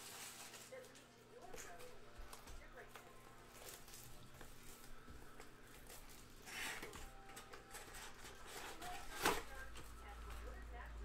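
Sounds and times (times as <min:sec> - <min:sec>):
plastic shrink wrap crinkling: 0:00.0 - 0:10.8.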